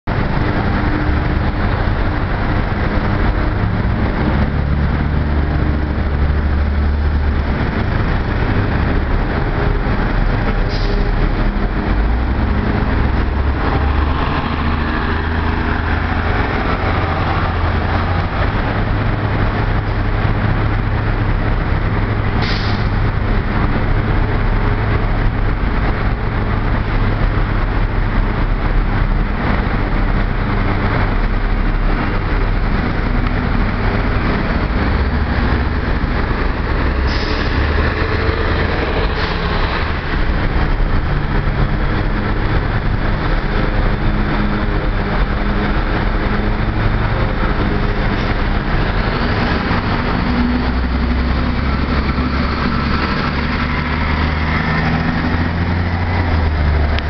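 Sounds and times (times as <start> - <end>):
bus engines passing: 0.0 - 57.0.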